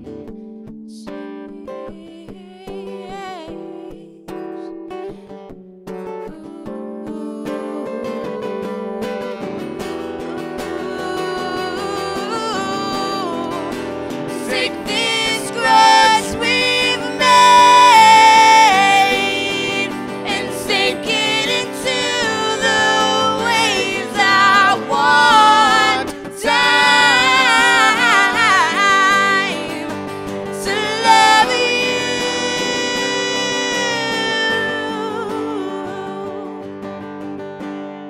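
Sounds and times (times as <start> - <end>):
guitar chords: 0.0 - 38.0
person singing wordless melody: 0.9 - 5.4, 6.2 - 9.4, 10.6 - 36.7.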